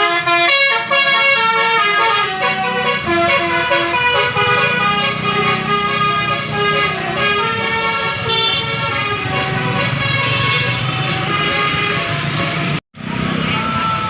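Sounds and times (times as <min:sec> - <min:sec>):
multi-tone air horn melody: 0:00.0 - 0:12.8
bus engine running: 0:00.0 - 0:14.0.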